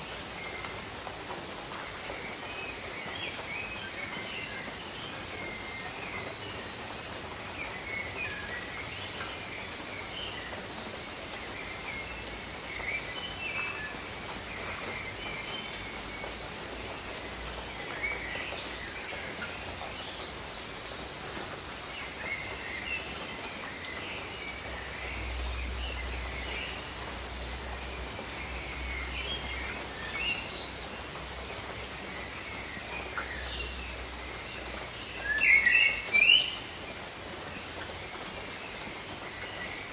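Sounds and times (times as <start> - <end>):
rain on foliage: 0.0 - 39.9
small birds chirping: 0.0 - 39.9.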